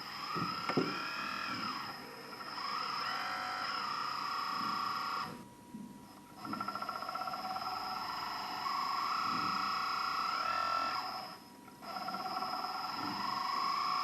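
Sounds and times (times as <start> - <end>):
hydraulic pump motor whining: 0.0 - 5.5, 6.4 - 14.0.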